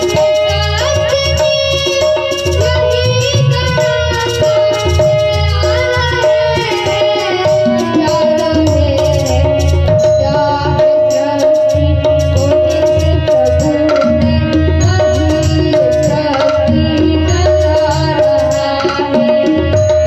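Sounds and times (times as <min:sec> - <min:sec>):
person singing: 0:00.0 - 0:20.0
tabla rhythm: 0:00.0 - 0:20.0.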